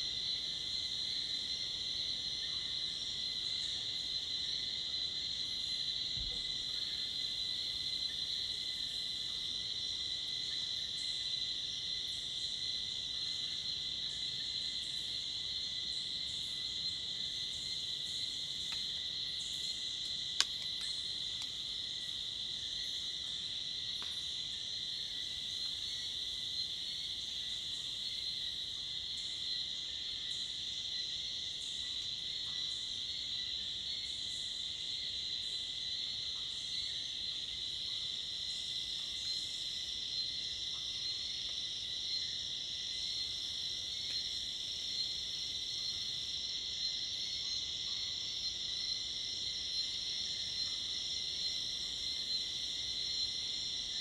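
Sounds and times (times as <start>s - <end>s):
crickets and cicadas buzzing: 0.0s - 54.0s.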